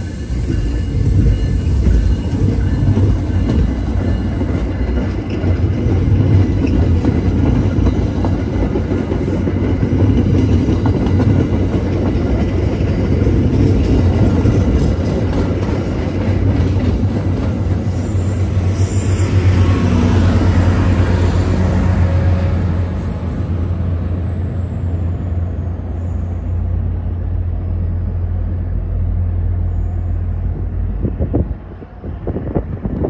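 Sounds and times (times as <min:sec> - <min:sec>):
diesel locomotive approaching: 0:00.0 - 0:33.0
train wheels rumbling on rails: 0:00.0 - 0:33.0.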